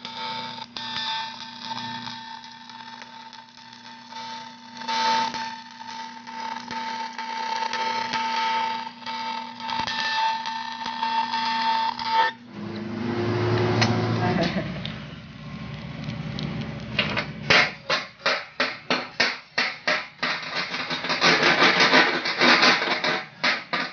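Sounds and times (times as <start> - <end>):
welding arc crackling and sizzling: 0.0 - 23.9.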